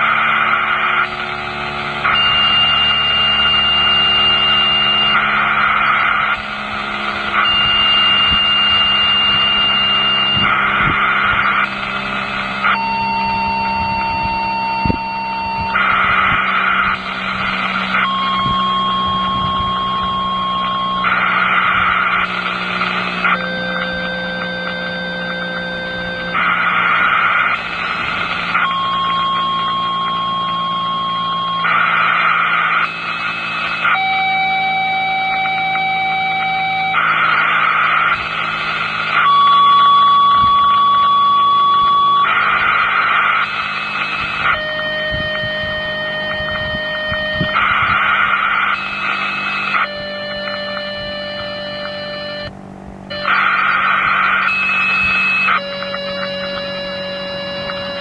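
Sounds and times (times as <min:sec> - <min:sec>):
low steady hum: 0:00.0 - 0:58.0
radio static burst: 0:00.0 - 0:58.0
steady paging tones: 0:00.9 - 0:58.0.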